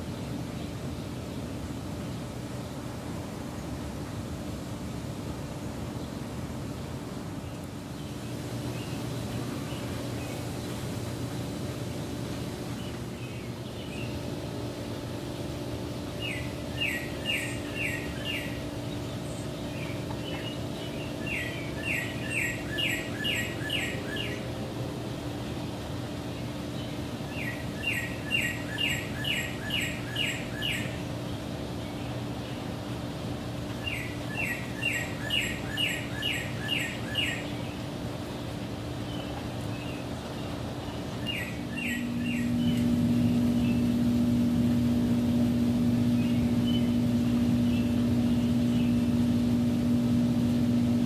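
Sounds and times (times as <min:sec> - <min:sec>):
steady low hum: 0:00.0 - 0:51.0
songbird singing: 0:07.3 - 0:51.0.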